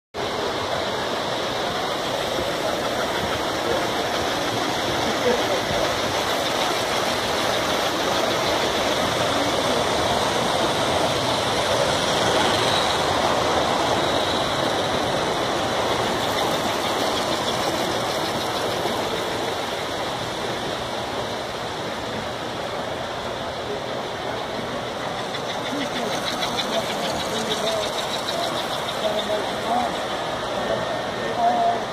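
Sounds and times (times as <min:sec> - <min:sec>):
model trains running on track: 0:00.2 - 0:31.9.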